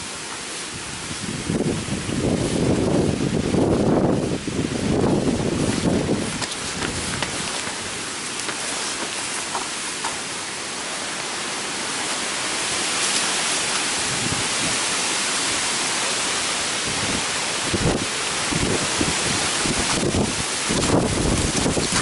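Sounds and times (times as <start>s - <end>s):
heavy rain falling: 0.0s - 22.0s
wind gusts on microphone: 0.6s - 9.8s, 12.2s - 22.0s.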